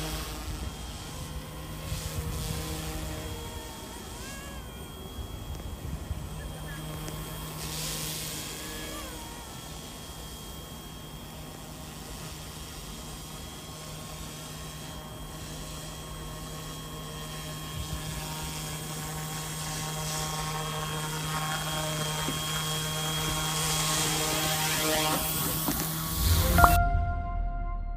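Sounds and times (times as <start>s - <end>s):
rotor blades humming: 0.0s - 26.6s
electric motor whine: 0.0s - 26.7s.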